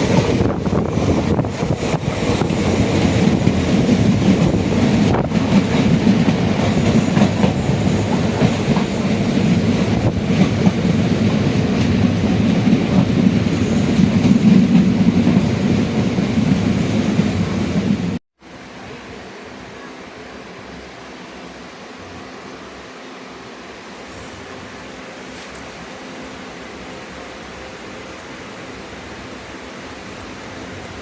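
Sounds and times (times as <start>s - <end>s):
train wheels rumbling on rail: 0.0s - 18.2s, 18.8s - 31.0s.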